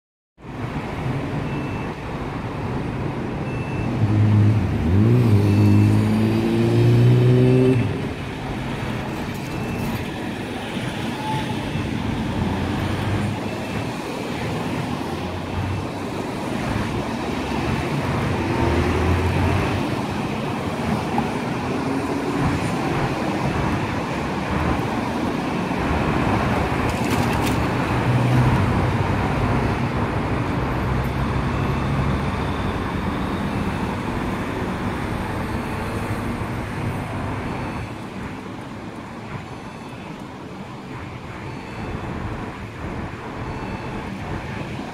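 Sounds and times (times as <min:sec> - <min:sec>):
cars driving through: 0:00.4 - 0:44.9.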